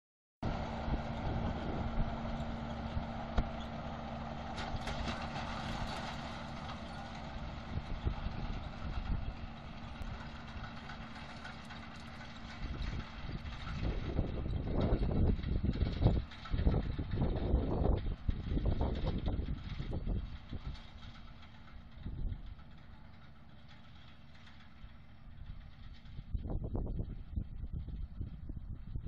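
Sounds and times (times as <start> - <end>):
tractor diesel engine running: 0.4 - 29.0.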